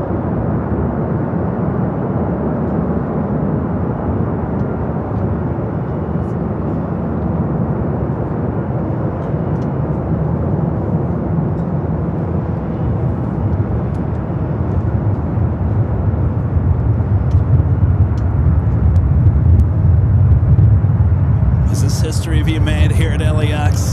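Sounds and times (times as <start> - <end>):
jet engines running: 2.5 - 23.9.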